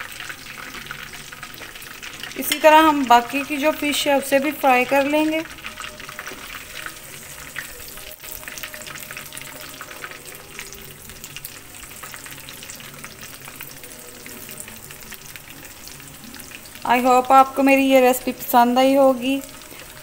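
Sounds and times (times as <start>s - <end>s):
fish deep-frying in oil: 0.0s - 20.0s.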